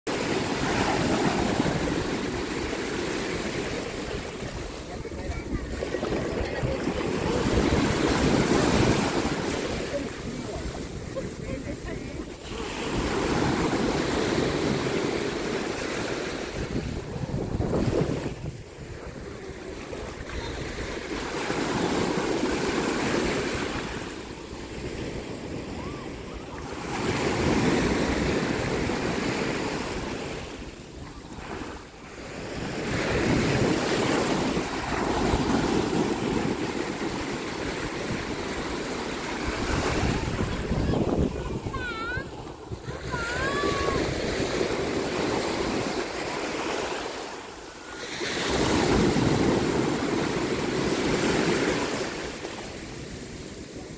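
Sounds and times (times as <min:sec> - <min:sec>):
small waves breaking on sand: 0:00.1 - 0:53.9.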